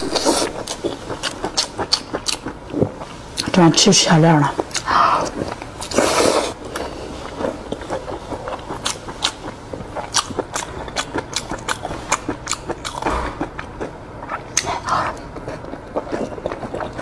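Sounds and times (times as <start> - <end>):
wet chewing and lip smacks: 0.1 - 3.6, 4.6 - 6.0, 6.7 - 17.0.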